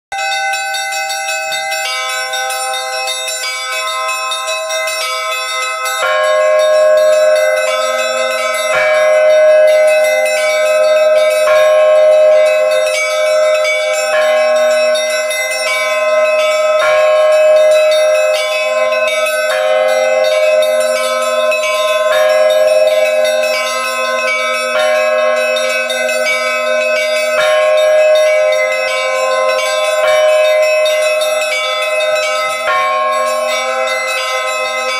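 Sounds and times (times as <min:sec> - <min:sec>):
bells ringing: 0:00.1 - 0:34.9.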